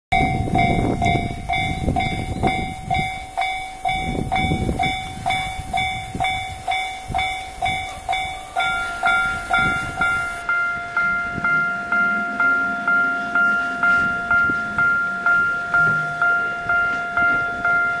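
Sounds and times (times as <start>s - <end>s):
railway crossing bell ringing: 0.1s - 18.0s.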